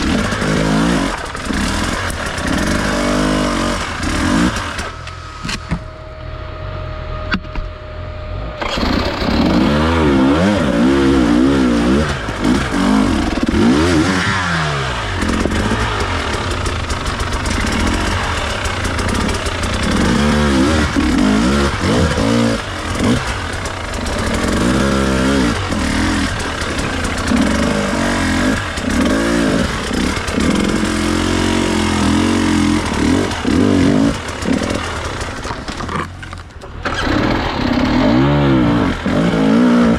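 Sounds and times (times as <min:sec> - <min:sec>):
dirt bike engine revving: 0:00.0 - 0:06.0, 0:08.0 - 0:39.9.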